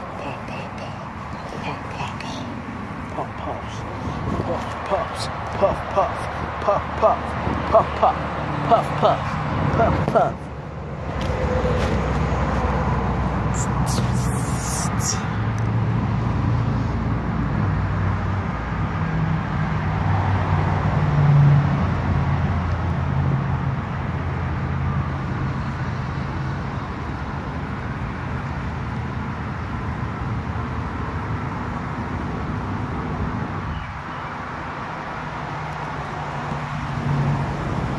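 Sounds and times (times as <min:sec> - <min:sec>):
outdoor background noise: 0:00.0 - 0:37.9.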